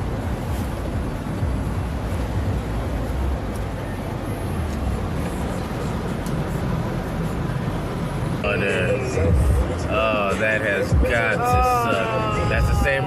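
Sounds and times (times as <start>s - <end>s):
car engine and wet tyres rumbling: 0.0s - 13.0s.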